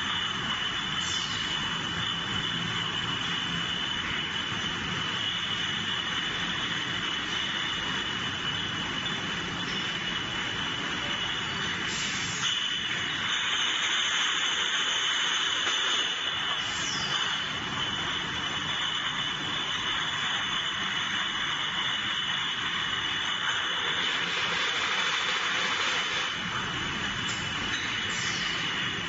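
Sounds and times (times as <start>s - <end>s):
constant high whine: 0.0s - 29.0s
machinery rushing hum: 0.0s - 29.0s.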